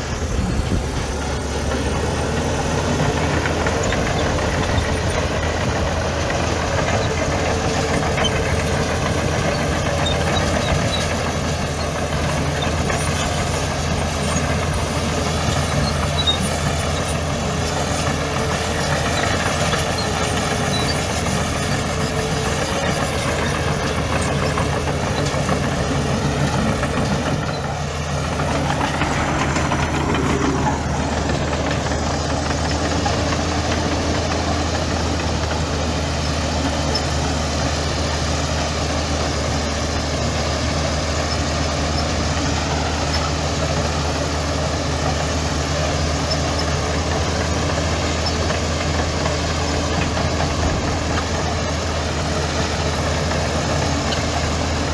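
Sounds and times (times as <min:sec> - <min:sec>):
heavy diesel engine running: 0:00.0 - 0:54.9.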